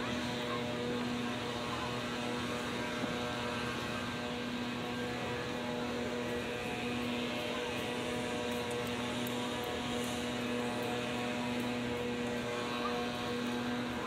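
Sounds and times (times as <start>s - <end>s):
mechanical hum: 0.0s - 14.0s
outdoor background noise: 0.0s - 14.0s.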